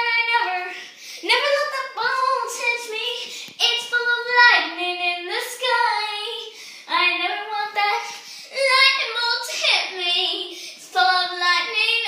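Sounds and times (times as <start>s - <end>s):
girl singing in high voice: 0.0s - 12.0s.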